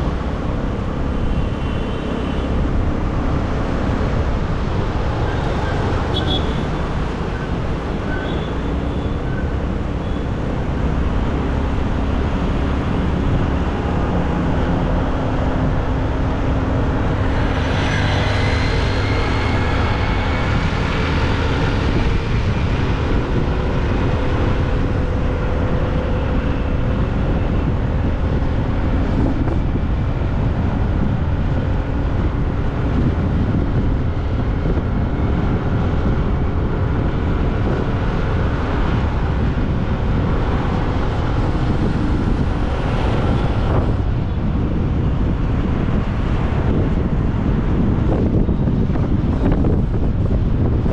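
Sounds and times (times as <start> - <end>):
motorbike riding on road: 0.0 - 50.9
rising engine whine: 0.0 - 50.9.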